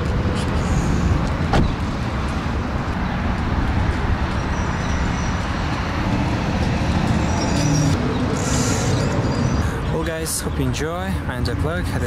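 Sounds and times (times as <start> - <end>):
engine hum: 0.0 - 10.0
road and tyre rumble: 0.0 - 12.0.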